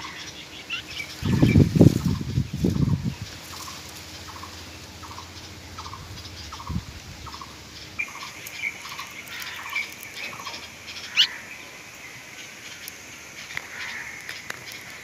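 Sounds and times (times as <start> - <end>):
higher steady bird call: 2.8 - 14.8.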